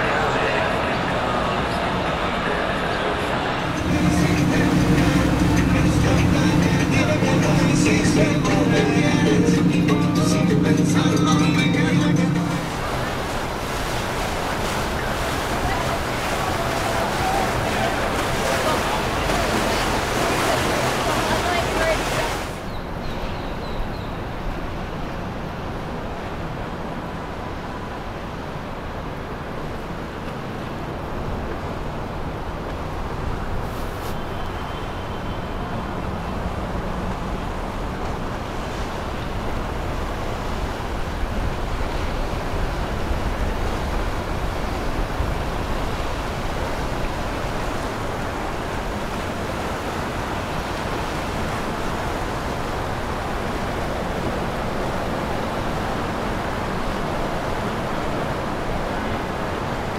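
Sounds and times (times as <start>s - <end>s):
hull wash on water: 0.0s - 23.0s, 24.1s - 59.9s
boat engine rush: 0.0s - 59.9s.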